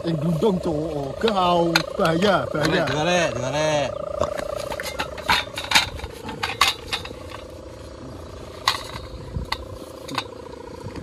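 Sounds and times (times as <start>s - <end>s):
kite hummer humming: 0.0s - 11.0s.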